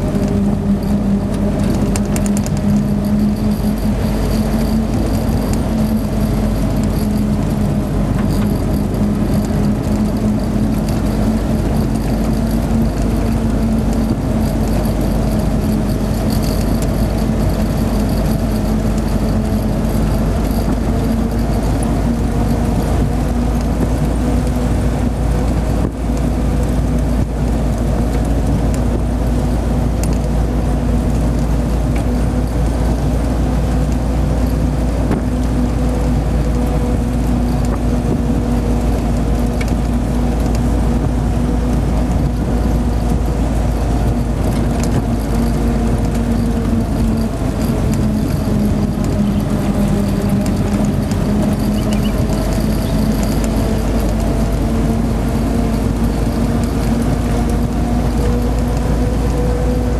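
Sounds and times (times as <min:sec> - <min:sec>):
car engine running: 0:00.0 - 0:59.9
road and wind rumble: 0:00.0 - 0:59.9.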